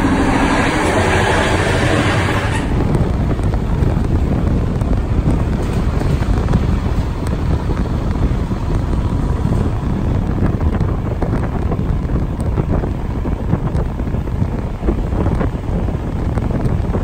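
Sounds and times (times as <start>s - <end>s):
train running noise: 0.0s - 17.0s
wind rushing over microphone: 0.0s - 17.0s.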